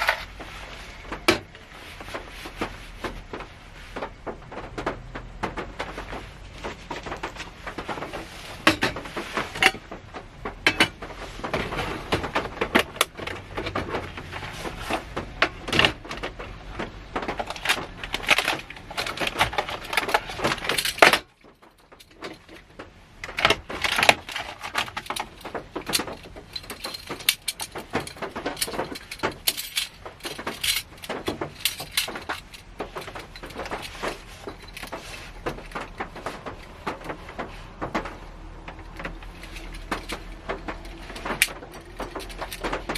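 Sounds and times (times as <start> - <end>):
rain on car roof: 0.0 - 42.9.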